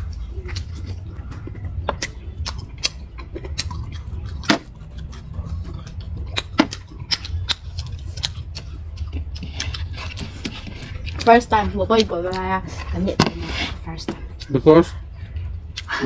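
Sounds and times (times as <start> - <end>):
chewing with mouth clicks: 0.0 - 16.0
steady low hum: 0.0 - 16.0.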